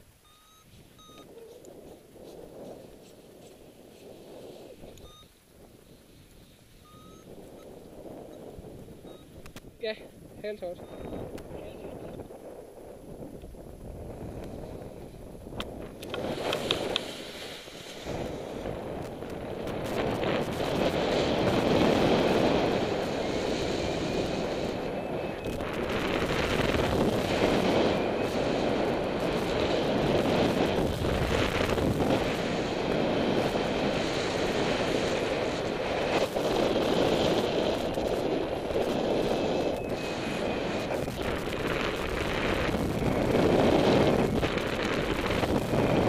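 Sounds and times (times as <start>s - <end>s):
airflow buffeting microphone: 0.0s - 46.0s.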